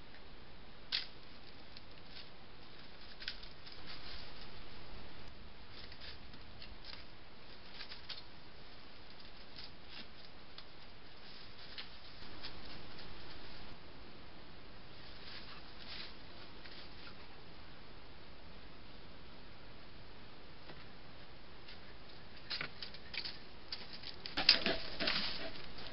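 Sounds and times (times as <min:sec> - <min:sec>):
microphone hiss: 0:00.0 - 0:25.9.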